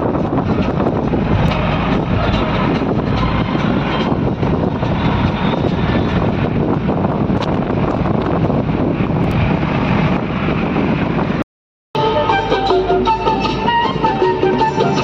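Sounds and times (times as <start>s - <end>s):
moving vehicle rumbling rush: 0.0s - 11.4s, 12.0s - 15.0s.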